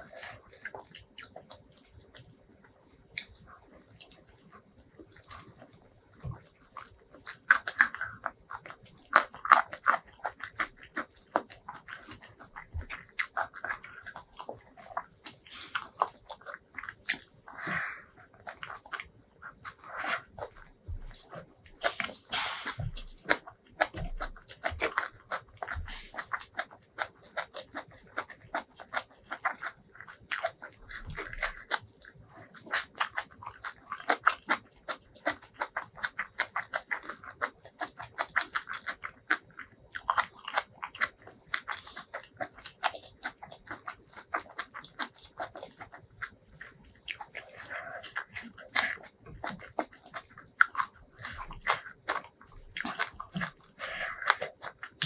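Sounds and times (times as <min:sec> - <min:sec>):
chewing mouth clicks: 0:00.0 - 0:55.0.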